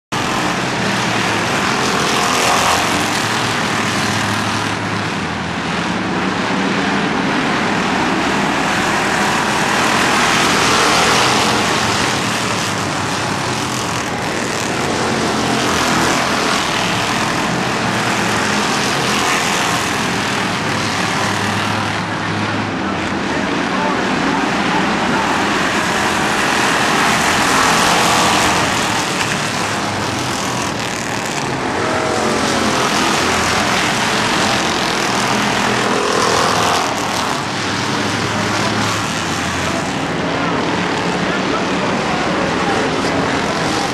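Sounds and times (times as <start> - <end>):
racing car engines: 0.1 - 43.9.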